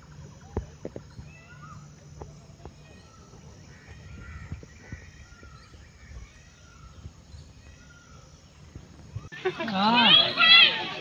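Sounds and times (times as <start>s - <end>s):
bird chirps: 0.0s - 9.3s.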